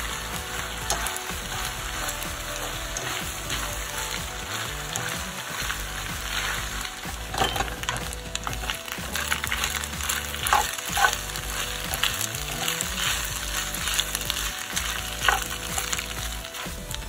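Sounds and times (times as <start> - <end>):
food sizzling in a pan: 0.0 - 17.0
utensil clacking against pan: 0.0 - 17.0
utensil scraping a pan: 0.0 - 17.0.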